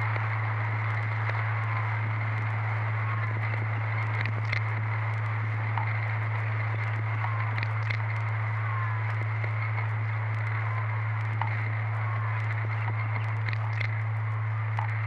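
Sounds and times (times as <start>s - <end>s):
hissing crackling texture: 0.0s - 15.0s.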